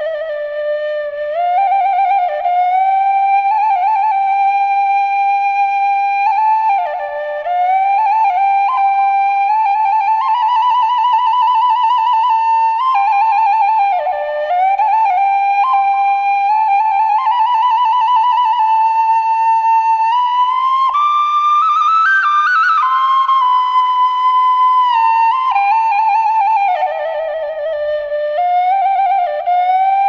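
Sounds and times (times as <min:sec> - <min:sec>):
solo flute melody: 0:00.0 - 0:30.0.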